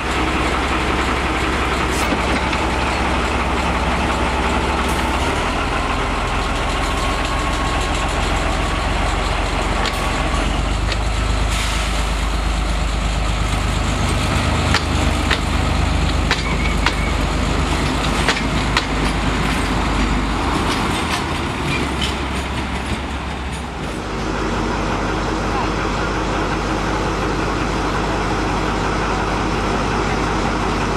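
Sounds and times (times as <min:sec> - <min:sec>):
locomotive engine hum: 0:00.0 - 0:30.9
train clicks and knocks: 0:00.0 - 0:30.9.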